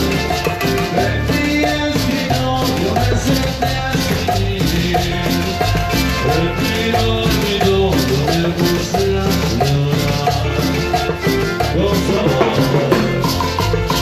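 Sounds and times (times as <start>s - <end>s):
live latin dance band: 0.0s - 14.0s.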